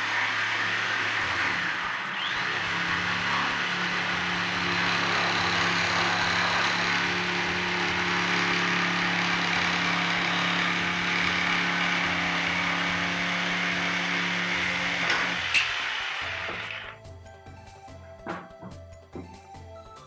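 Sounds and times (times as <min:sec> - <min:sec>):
electric jigsaw sawing wood: 0:00.0 - 0:17.0.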